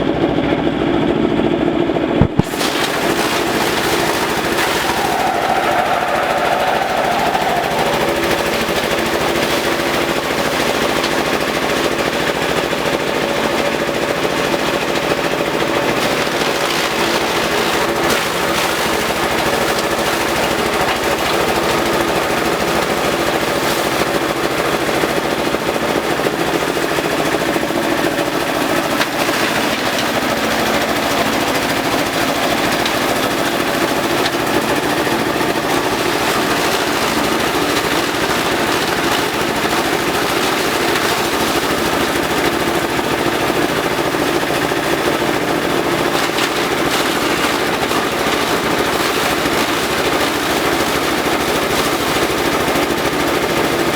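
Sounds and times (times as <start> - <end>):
compost shredder clattering: 1.6 - 53.9.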